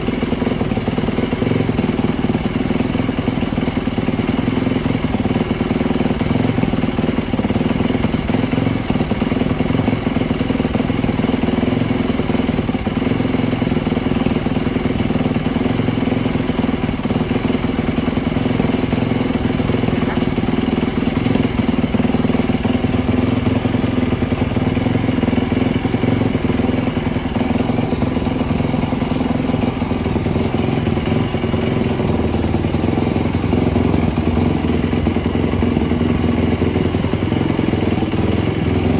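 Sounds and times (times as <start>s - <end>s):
small motorcycle engine running: 0.0s - 38.9s.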